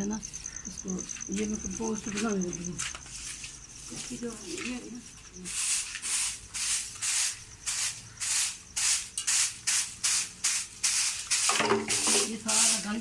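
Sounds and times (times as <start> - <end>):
broom sweeping concrete floor: 2.1 - 13.0.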